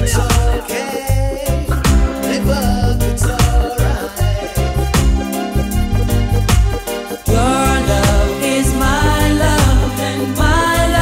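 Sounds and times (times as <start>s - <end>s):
reggae music with bass beat: 0.0s - 11.0s.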